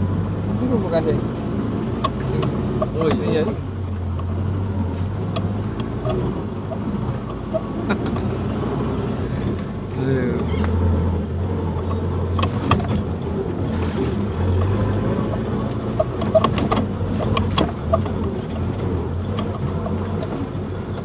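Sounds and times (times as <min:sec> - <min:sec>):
low engine drone: 0:00.0 - 0:21.0
vehicle knocks and clatters: 0:00.7 - 0:21.0.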